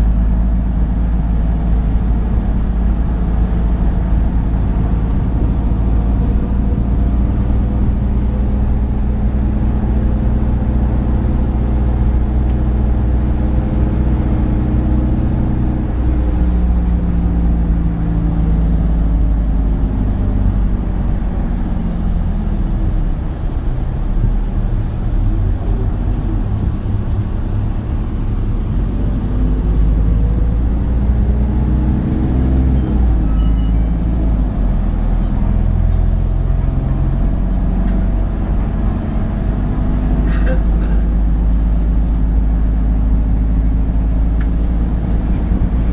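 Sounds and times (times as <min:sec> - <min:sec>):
bus diesel engine from inside: 0:00.0 - 0:45.9.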